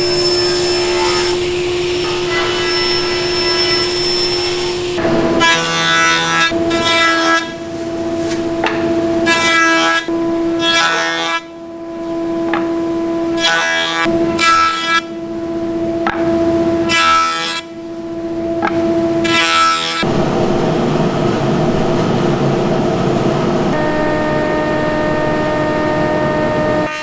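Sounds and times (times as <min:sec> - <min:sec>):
table saw humming: 0:00.0 - 0:27.0
thickness planer whining: 0:00.0 - 0:27.0.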